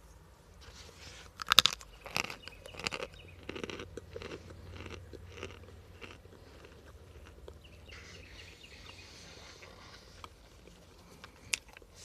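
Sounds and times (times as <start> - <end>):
crunchy chewing: 0.6 - 12.0.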